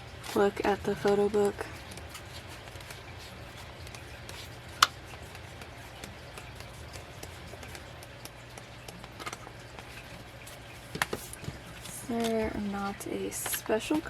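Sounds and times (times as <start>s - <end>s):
pages being turned: 1.0s - 12.6s.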